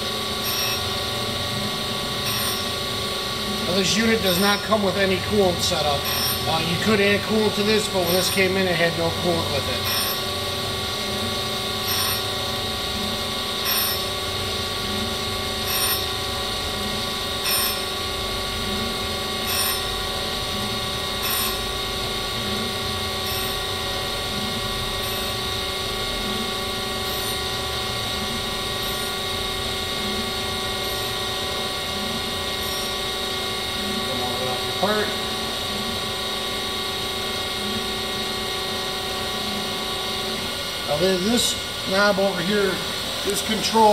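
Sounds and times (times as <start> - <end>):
grinder motor hum: 0.0 - 43.9.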